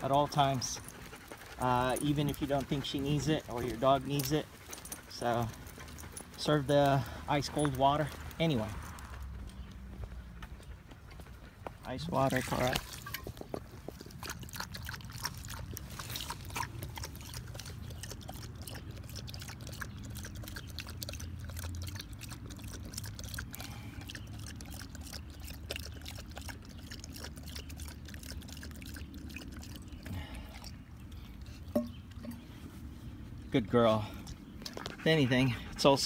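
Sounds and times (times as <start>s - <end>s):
dog lapping water: 0.0s - 9.0s, 12.0s - 32.5s.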